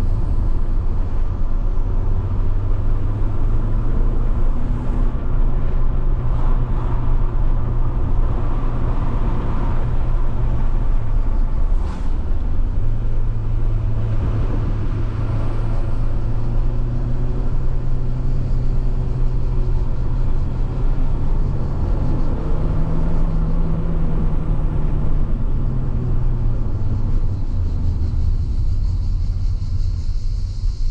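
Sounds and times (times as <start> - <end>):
car engine running: 0.0 - 30.8
road noise: 0.0 - 30.9.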